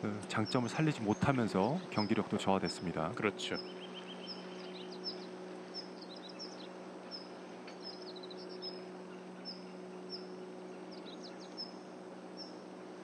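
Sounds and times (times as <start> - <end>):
steady low hum: 0.0 - 13.0
bird chirping: 0.2 - 12.7.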